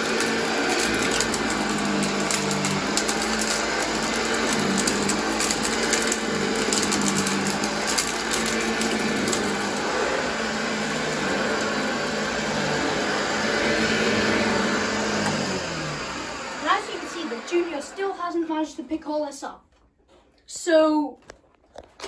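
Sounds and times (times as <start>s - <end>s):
upright vacuum cleaner running: 0.0s - 19.2s.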